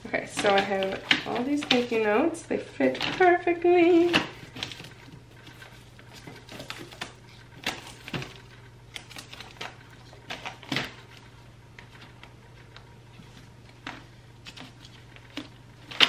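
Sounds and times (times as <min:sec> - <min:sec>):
plastic crates clicking: 0:00.2 - 0:12.8, 0:13.7 - 0:16.0.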